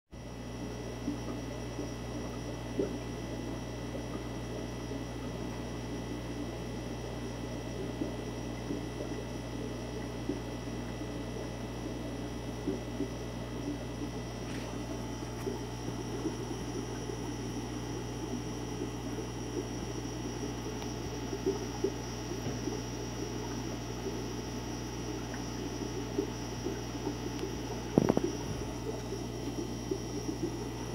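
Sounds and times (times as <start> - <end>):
aquarium filter hum: 0.2 - 30.9
small ticks: 0.6 - 30.8
water trickling and bubbling: 0.7 - 30.9.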